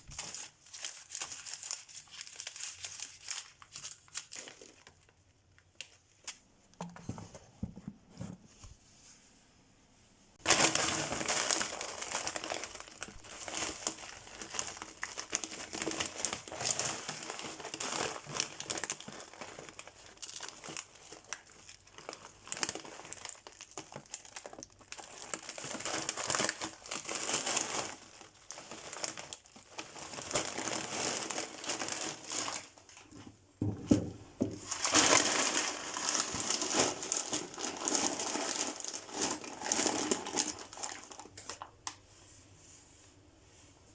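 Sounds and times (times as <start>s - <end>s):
plastic bags crinkling: 0.0s - 6.2s, 10.4s - 33.1s, 34.6s - 42.0s.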